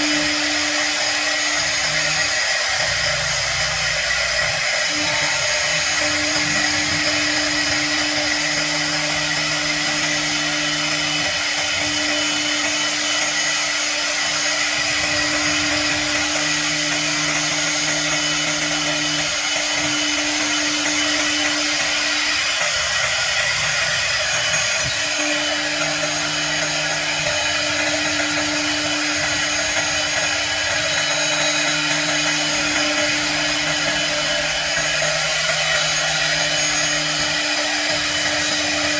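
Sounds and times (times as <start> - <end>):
cnc router spindle cutting: 0.0 - 38.9.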